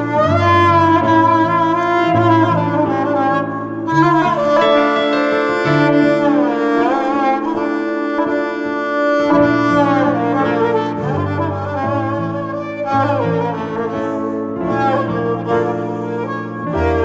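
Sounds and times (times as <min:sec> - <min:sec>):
slow instrumental melody: 0:00.0 - 0:17.0.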